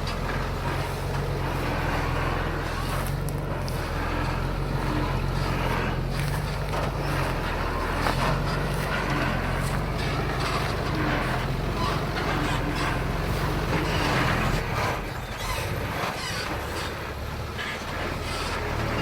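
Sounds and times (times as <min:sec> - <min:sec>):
diesel engine running: 0:00.0 - 0:19.0
metal clanks and rattles: 0:00.0 - 0:19.0.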